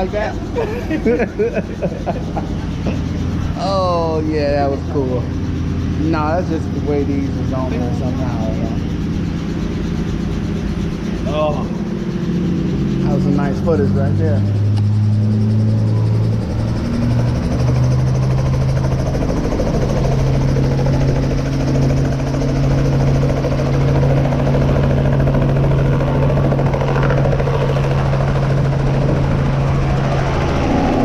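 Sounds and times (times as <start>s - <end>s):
helicopter engine and rotor: 0.0s - 31.0s.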